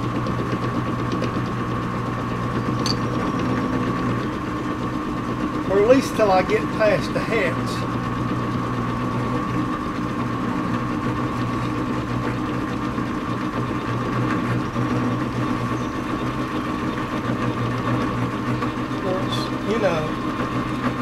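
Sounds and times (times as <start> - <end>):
metal lathe humming and whining: 0.0 - 21.0.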